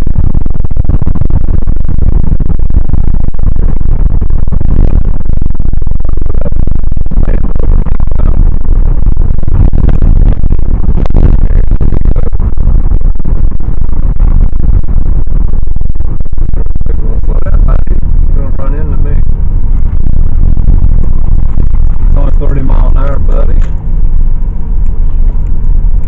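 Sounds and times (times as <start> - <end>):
road rumble in car: 0.0 - 26.0
wind buffeting microphone: 0.0 - 26.0.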